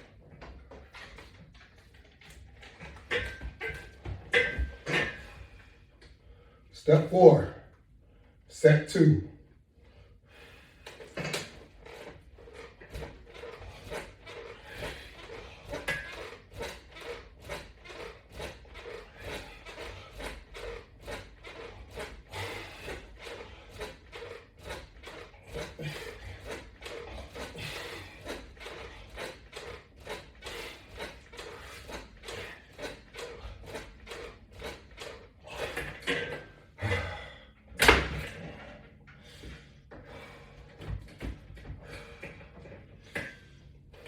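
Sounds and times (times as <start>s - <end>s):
exercise equipment creaking: 0.0s - 7.4s, 9.9s - 44.0s.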